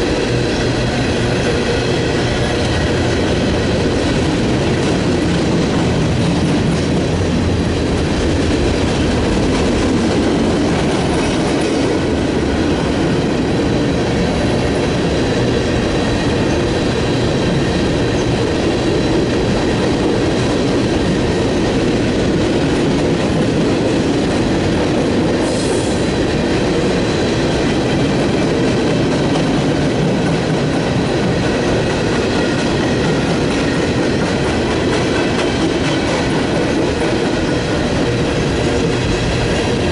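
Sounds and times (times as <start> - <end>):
train cars rumbling past: 0.0 - 39.9.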